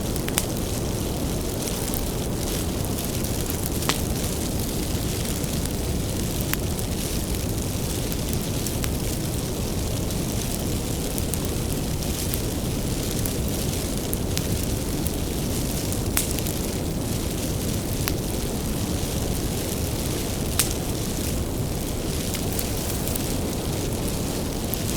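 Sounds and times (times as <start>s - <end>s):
fire crackling pops: 0.0s - 24.9s
wood fire rumbling: 0.0s - 24.9s.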